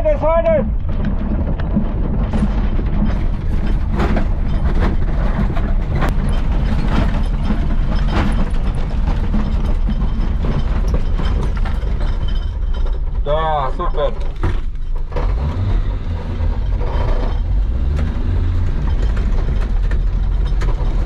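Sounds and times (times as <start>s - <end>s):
clattering clicks and knocks: 0.0s - 21.0s
engines straining under load: 0.0s - 21.0s
heavy low rumble: 0.0s - 21.0s.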